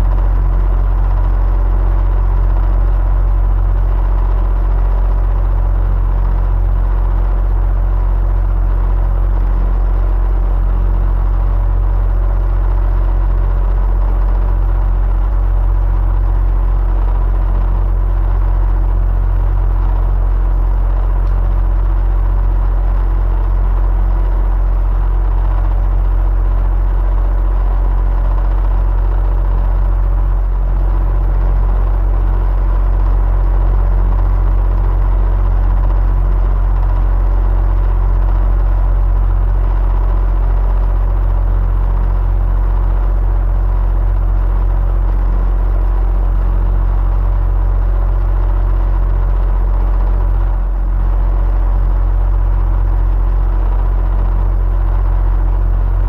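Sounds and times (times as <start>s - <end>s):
electric fan air rumble: 0.0s - 56.0s
faint motor hum: 0.0s - 56.0s.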